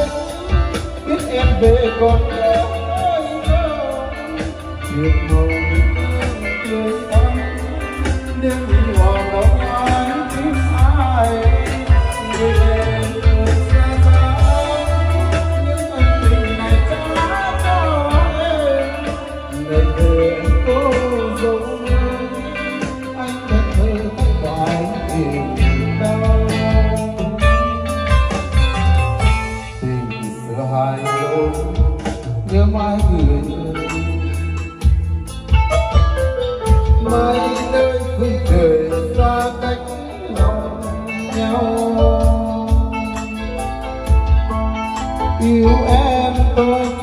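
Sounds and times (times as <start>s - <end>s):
heavy pulsing bass line: 0.0s - 47.0s
keyboard: 0.0s - 47.0s
live band through speakers: 0.0s - 47.0s
steady drum beat: 0.0s - 47.0s.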